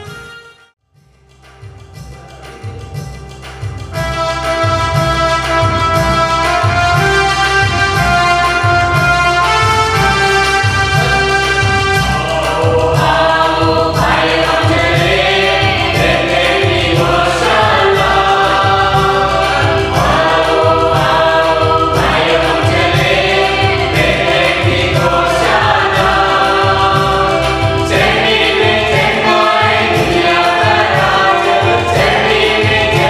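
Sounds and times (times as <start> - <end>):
electronic keyboard with beat: 1.2 - 33.0
choir singing a carol: 3.9 - 33.0.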